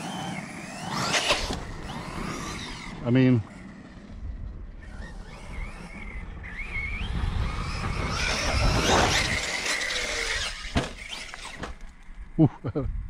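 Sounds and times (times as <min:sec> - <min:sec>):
electric motor whining: 0:00.0 - 0:12.2.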